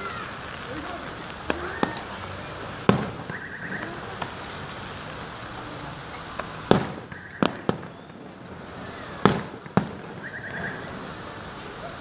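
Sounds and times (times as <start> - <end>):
fireworks bangs: 0.0 - 12.0
small fireworks pops: 0.0 - 12.0
steady background hiss: 0.0 - 12.0.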